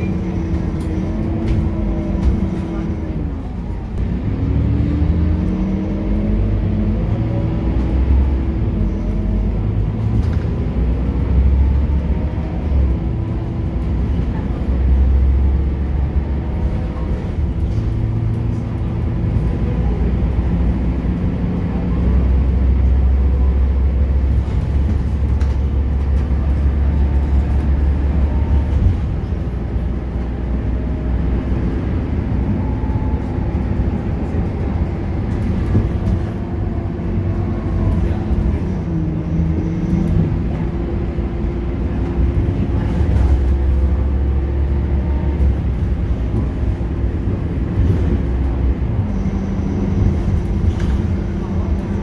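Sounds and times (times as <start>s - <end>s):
bus diesel engine under load: 0.0s - 52.0s.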